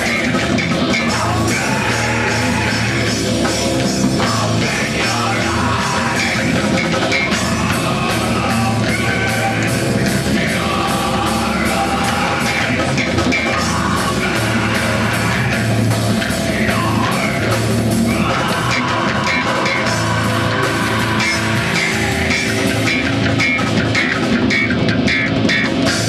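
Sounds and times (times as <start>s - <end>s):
drum kit steady beat: 0.0s - 26.0s
electric guitar: 0.0s - 26.0s.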